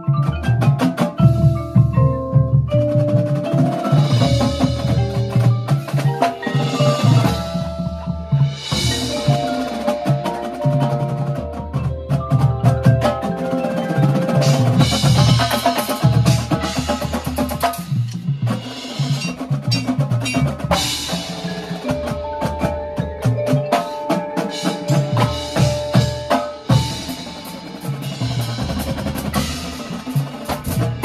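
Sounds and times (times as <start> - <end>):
marimbas and vibraphones playing: 0.0 - 31.0
sharp percussion hits: 0.0 - 31.0.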